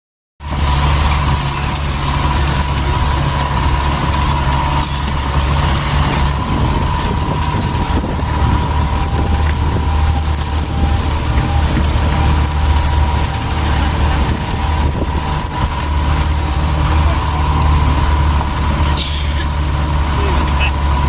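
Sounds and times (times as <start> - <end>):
steady engine hum on road: 0.4 - 21.0
thin steady whine: 0.4 - 21.0
vehicle engine running: 0.4 - 21.0.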